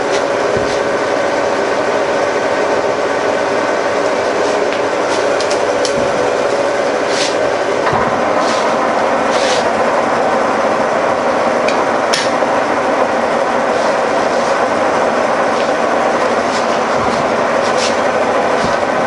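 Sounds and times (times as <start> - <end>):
milling machine running: 0.0 - 19.0.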